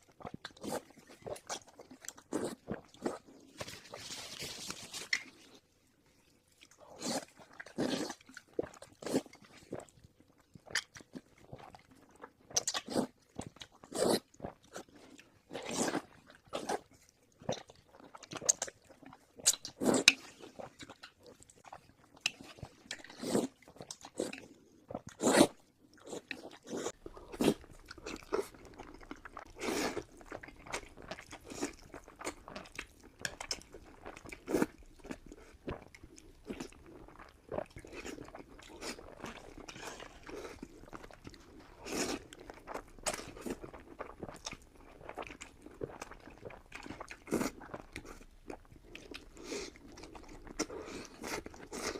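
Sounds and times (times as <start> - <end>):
person chewing crunchy food: 0.1 - 5.6, 6.5 - 51.9.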